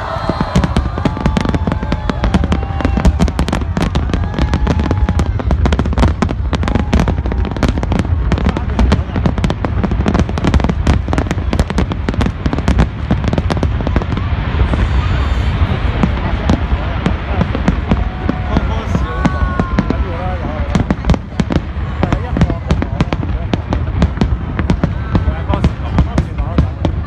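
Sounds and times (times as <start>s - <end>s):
deep rumble: 0.0s - 27.0s
fireworks bangs and crackles: 0.0s - 27.0s.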